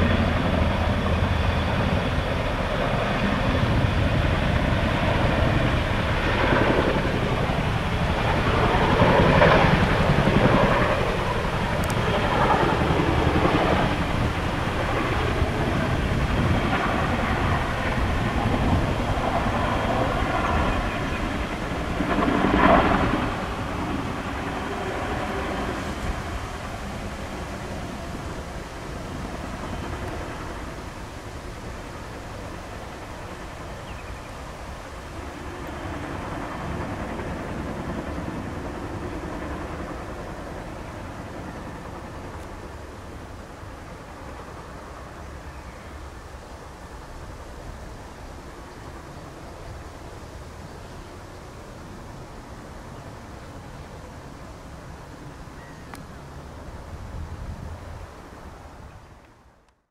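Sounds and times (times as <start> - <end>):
helicopter rotors and engines rumbling: 0.0 - 59.9.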